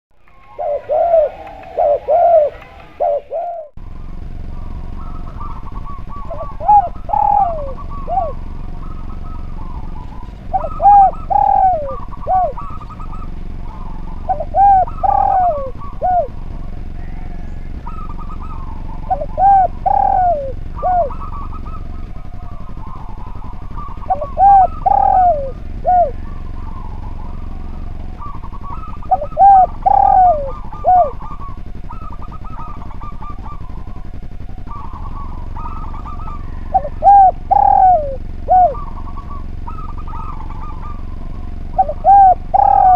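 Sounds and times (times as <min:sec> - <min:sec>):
steady low hum: 0:00.1 - 0:42.9
dove cooing: 0:00.2 - 0:42.9
fainter higher dove coos: 0:00.2 - 0:42.9.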